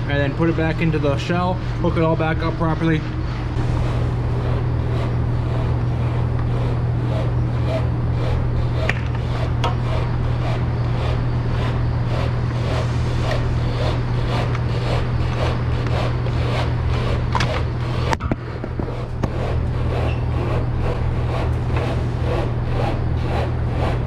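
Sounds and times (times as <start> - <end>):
pulsing machine hum: 0.0 - 24.0.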